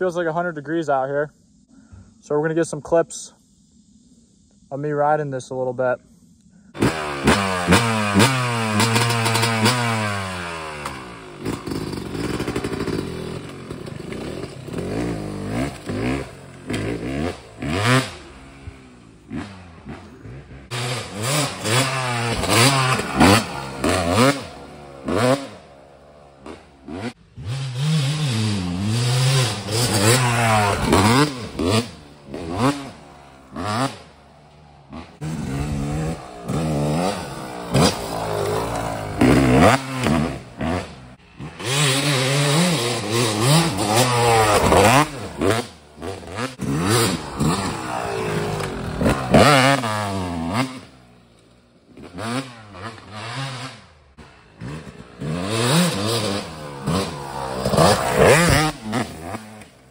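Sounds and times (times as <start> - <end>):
dirt bike engine revving: 6.8 - 59.9.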